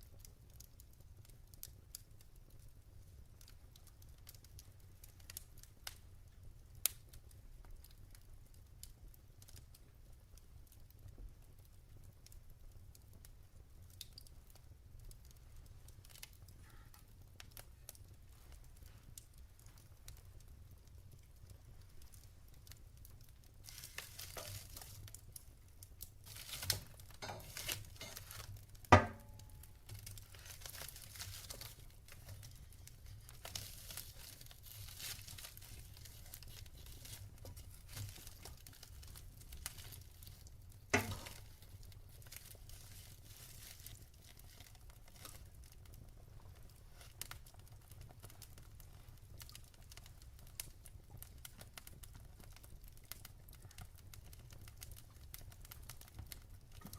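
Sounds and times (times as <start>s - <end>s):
logs crackling in fireplace: 0.0s - 56.9s.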